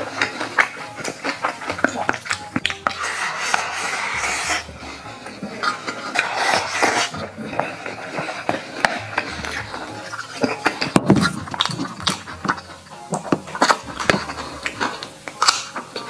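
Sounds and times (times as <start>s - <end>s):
chewing and smacking: 0.0s - 16.0s.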